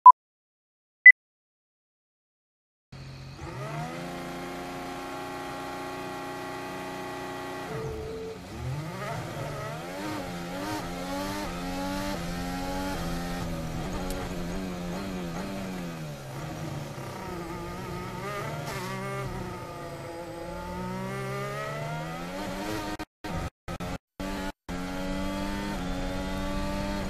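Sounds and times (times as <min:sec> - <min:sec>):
racing car engine revving: 0:03.2 - 0:27.0.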